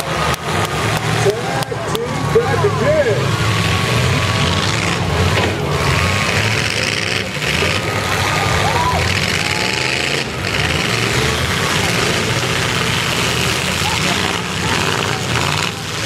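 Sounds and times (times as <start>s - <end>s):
car engines revving together: 0.0s - 16.0s.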